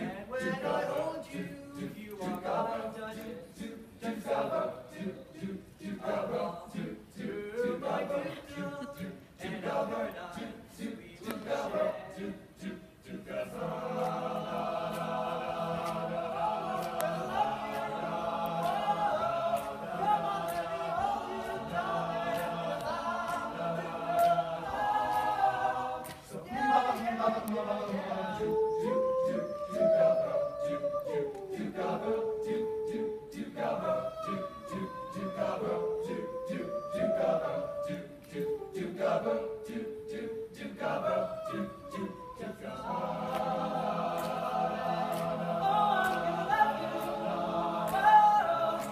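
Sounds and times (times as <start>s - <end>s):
male a cappella choir singing: 0.0s - 48.9s.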